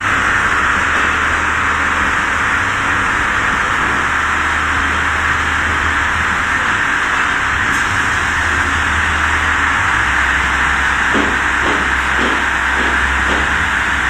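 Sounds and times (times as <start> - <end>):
low hum: 0.0 - 14.0
machine hissing: 0.0 - 14.0.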